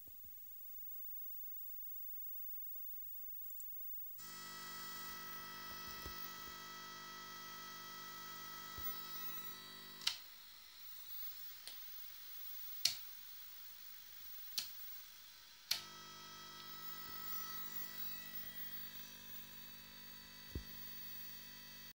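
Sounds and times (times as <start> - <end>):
television electrical buzz: 4.2 - 21.9.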